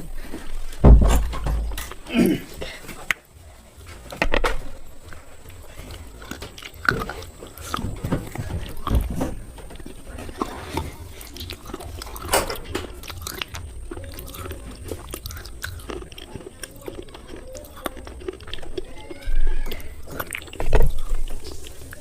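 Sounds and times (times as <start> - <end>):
pencils being chewed crunching: 1.8 - 22.0.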